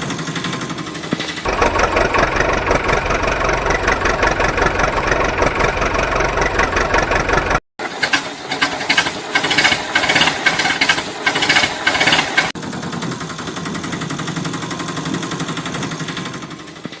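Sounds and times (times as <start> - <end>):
pulsing engine chug: 0.0 - 17.0
rapid mechanical clattering: 0.0 - 17.0.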